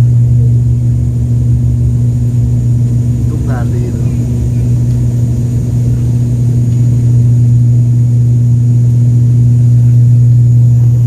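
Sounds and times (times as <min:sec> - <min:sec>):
airliner engines drone: 0:00.0 - 0:11.0.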